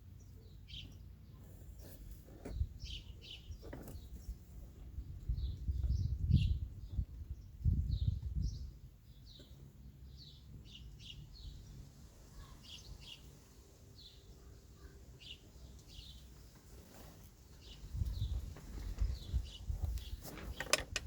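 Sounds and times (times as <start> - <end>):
birds chirping: 0.1 - 16.8, 17.5 - 21.0.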